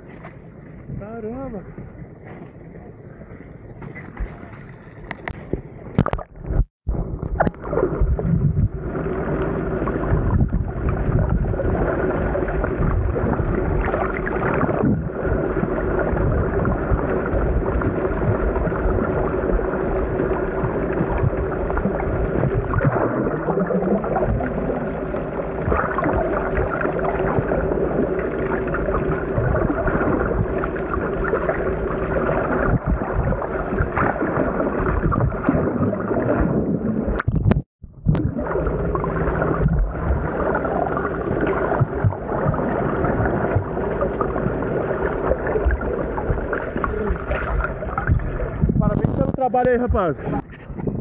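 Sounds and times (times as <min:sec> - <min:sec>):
boat engine hum underwater: 0:00.0 - 0:51.0
water rushing and gurgling: 0:00.0 - 0:51.0.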